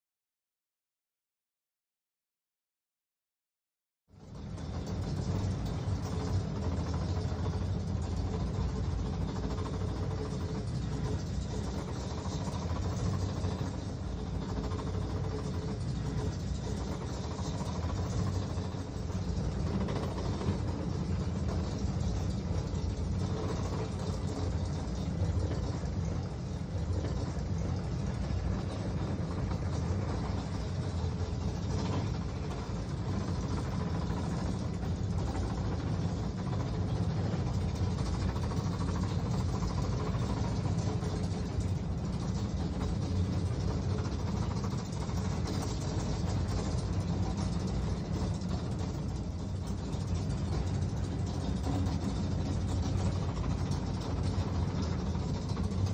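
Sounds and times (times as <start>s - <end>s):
monorail engine rumbling: 4.2s - 55.9s.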